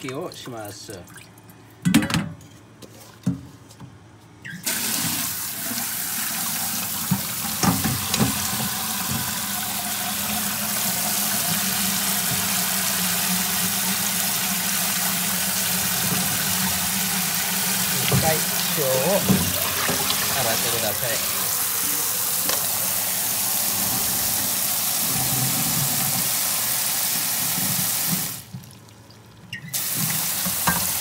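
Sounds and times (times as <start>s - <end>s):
tap water running into sink: 4.7s - 28.9s, 29.6s - 31.0s.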